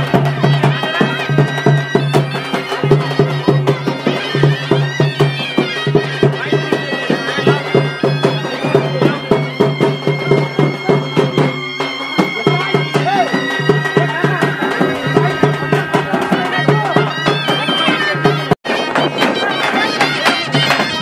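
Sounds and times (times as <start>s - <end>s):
quick regular drumming: 0.0s - 21.0s
reedy wind instrument melody: 0.0s - 21.0s.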